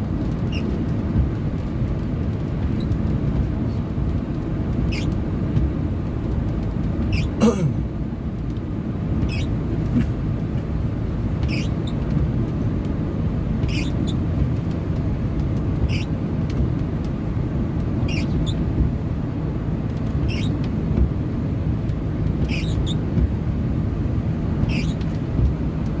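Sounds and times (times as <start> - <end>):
car cabin rumble: 0.0 - 26.0
windscreen wipers swishing: 0.0 - 26.0.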